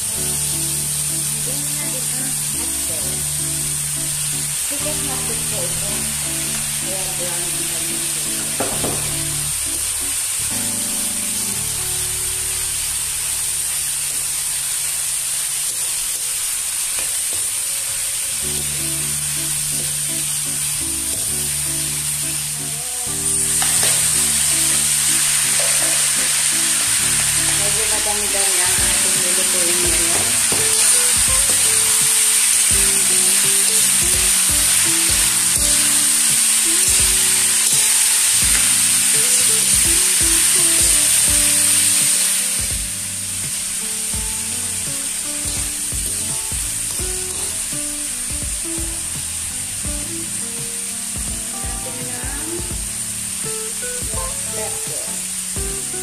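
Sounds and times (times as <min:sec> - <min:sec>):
background music: 0:00.0 - 0:14.8, 0:17.4 - 0:56.0
food sizzling in a wok: 0:00.0 - 0:56.0.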